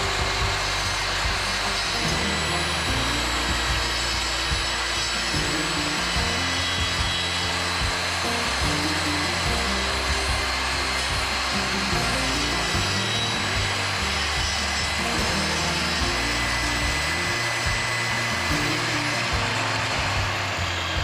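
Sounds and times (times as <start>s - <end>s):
background music: 0.0s - 21.0s
table saw ripping wood: 0.0s - 21.0s.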